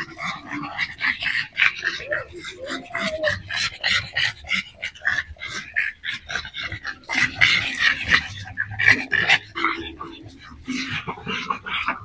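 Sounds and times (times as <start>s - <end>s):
dogs growling and grunting: 0.0s - 12.0s.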